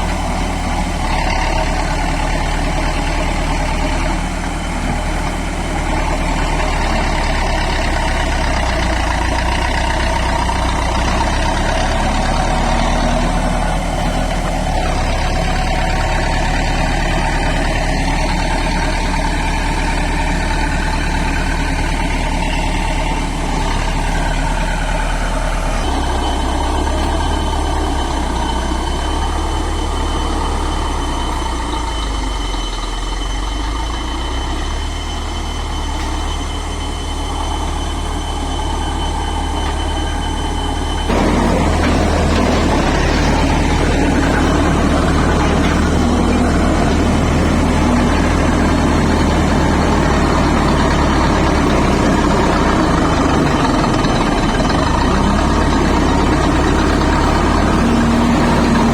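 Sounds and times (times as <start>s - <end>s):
heavy machinery engine humming: 0.0s - 58.9s.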